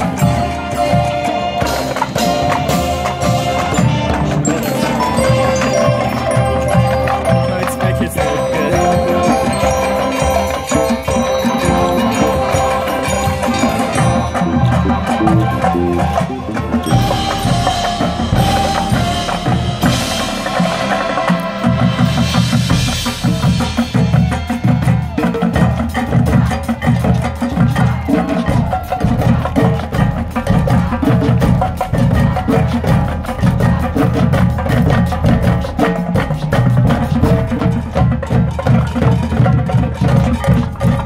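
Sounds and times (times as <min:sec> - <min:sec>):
drums beating: 0:00.0 - 0:41.0
marching band playing: 0:00.0 - 0:41.0
marimbas and mallet percussion: 0:00.0 - 0:41.0.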